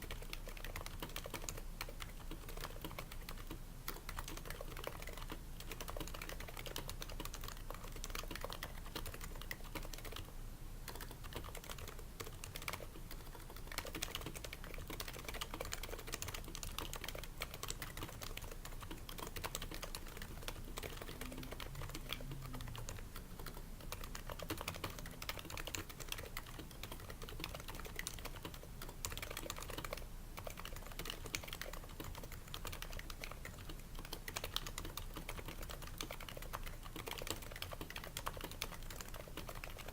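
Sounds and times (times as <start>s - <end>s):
keyboard typing: 0.0s - 10.3s, 10.9s - 39.9s.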